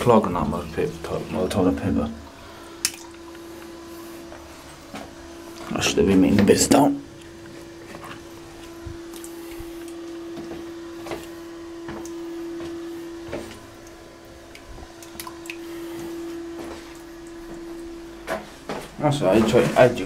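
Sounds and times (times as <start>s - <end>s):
toilet fill valve humming: 0.0s - 20.0s.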